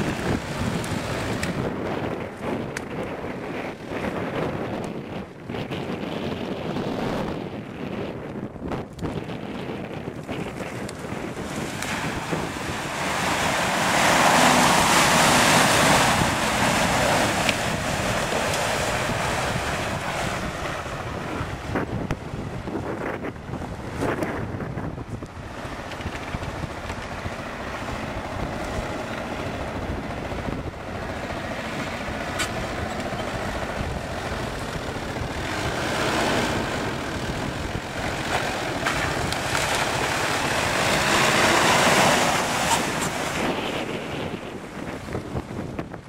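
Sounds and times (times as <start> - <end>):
off-road vehicle engines: 0.0 - 46.0
wind buffeting microphone: 0.0 - 46.0.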